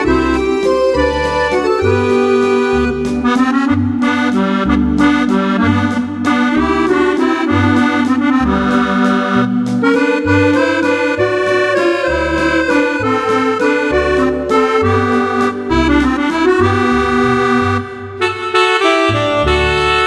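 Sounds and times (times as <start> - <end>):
accordion playing a waltz: 0.0 - 20.0.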